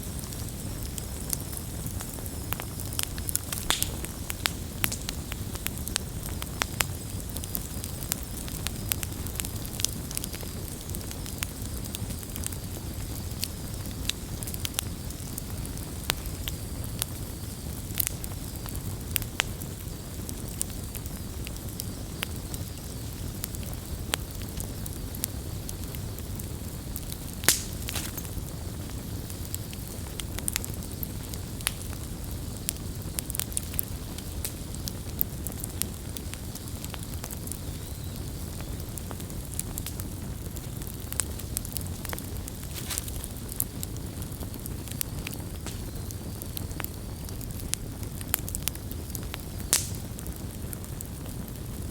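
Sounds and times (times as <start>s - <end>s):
campfire flames rumbling: 0.0s - 51.9s
fire crackling and popping: 0.0s - 51.9s.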